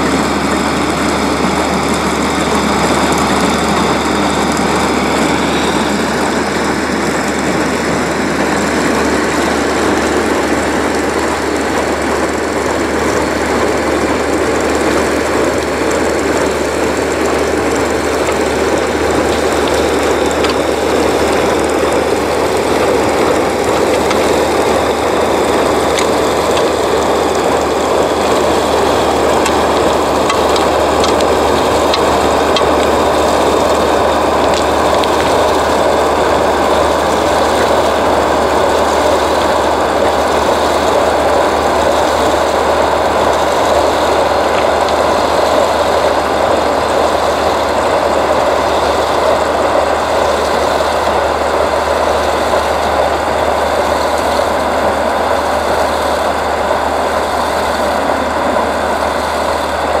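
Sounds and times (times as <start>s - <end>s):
faint steady whine: 0.0s - 60.0s
train machinery engine running: 0.0s - 60.0s.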